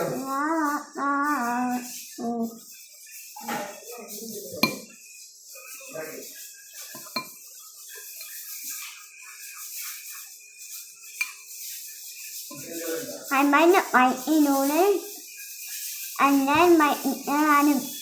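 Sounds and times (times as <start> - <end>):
utensil clinking against a bowl: 0.0 - 18.0.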